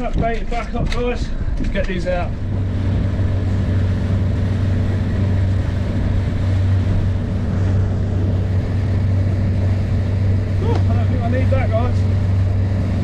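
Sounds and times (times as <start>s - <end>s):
outboard motor drone: 0.0s - 13.0s.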